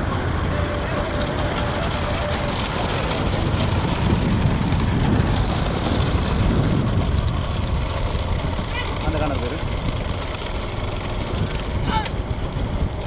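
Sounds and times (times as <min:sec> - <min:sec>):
road noise: 0:00.0 - 0:13.0
vehicle engines running: 0:00.0 - 0:13.0.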